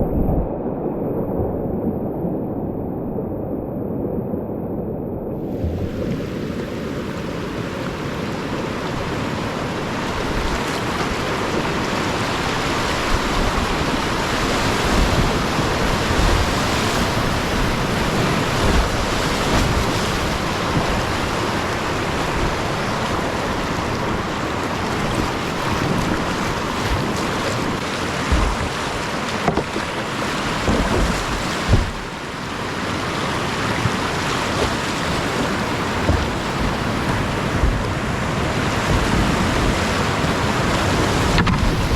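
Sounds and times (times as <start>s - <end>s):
wind buffeting microphone: 0.0s - 41.9s
whitewater rapids rushing: 5.7s - 41.9s.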